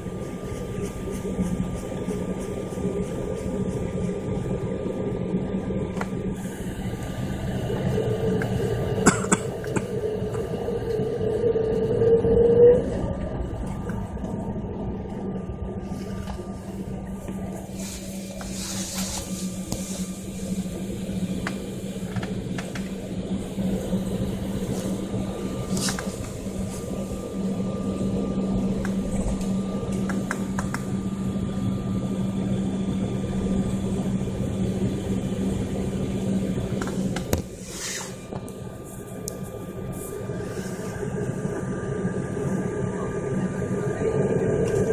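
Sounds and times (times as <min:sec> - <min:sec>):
aircraft cabin drone: 0:00.0 - 0:44.9.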